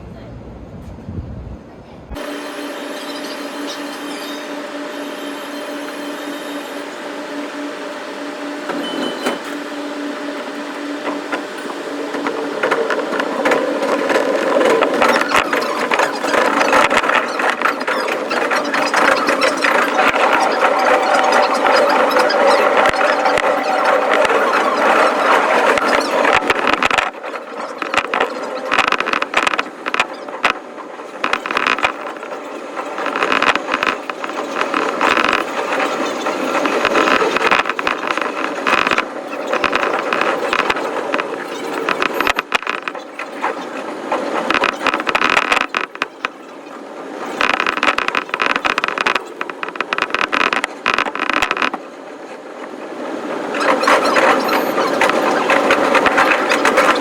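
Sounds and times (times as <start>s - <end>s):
sped-up train rattling: 2.1s - 50.2s.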